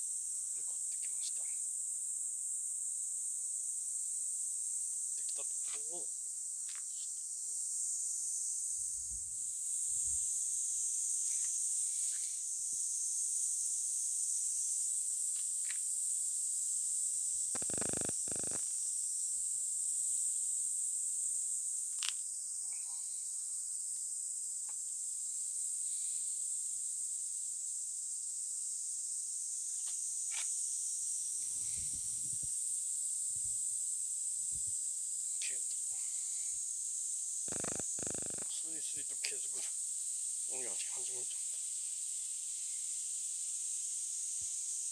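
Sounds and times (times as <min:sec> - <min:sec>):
insects chorus: 0:00.0 - 0:44.9.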